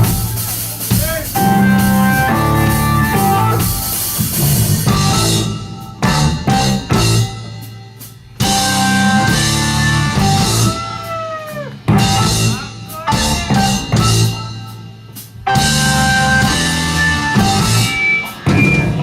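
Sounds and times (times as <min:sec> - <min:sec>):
hard rock band hits: 0:00.0 - 0:19.0.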